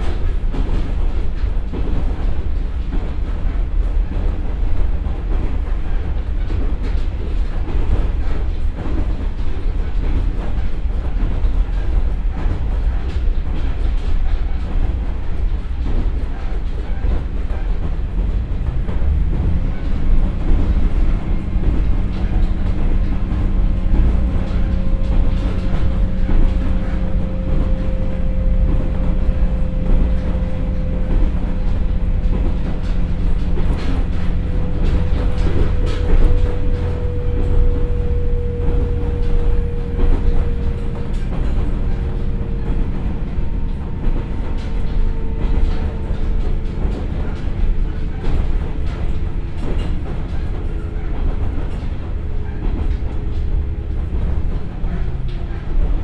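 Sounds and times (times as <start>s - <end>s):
train engine and wheels rumbling: 0.0s - 56.0s.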